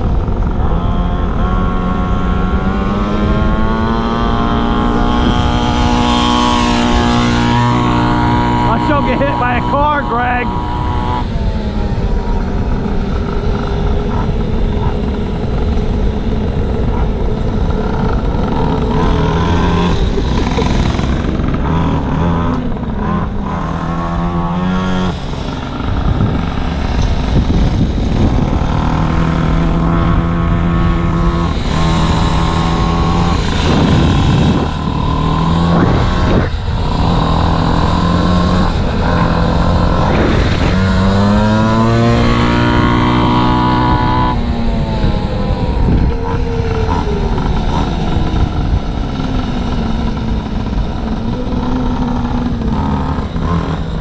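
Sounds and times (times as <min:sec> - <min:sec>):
small gasoline engine revving: 0:00.0 - 0:54.0.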